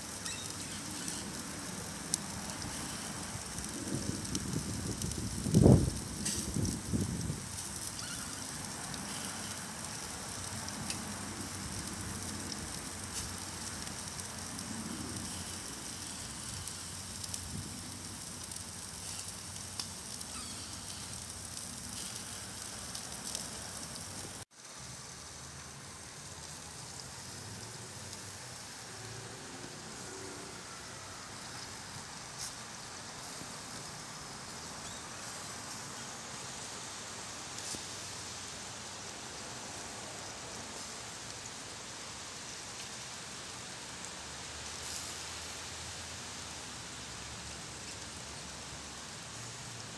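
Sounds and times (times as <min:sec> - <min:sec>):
crackles and pops: 0:00.0 - 0:45.7, 0:46.3 - 0:49.9
steak sizzling on a grill: 0:00.0 - 0:49.9.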